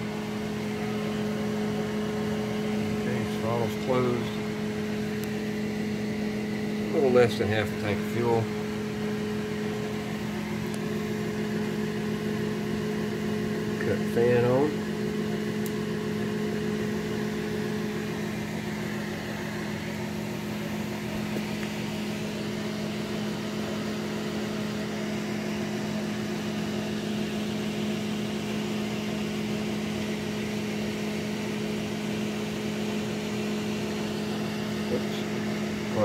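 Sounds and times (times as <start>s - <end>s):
electric fan humming: 0.0s - 36.0s.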